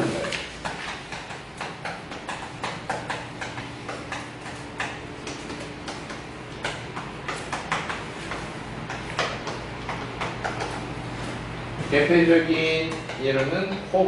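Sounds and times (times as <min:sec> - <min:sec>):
chalk tapping on blackboard: 0:00.2 - 0:11.4, 0:12.0 - 0:14.0.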